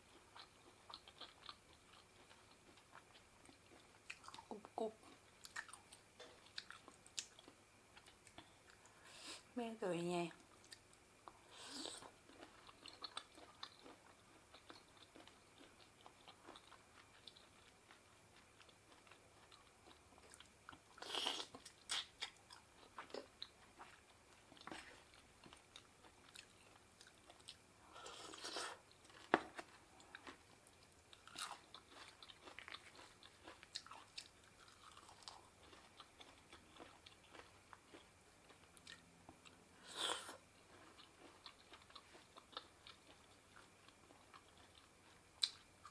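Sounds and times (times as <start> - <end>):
person chewing food: 0.0 - 9.0, 10.4 - 45.9.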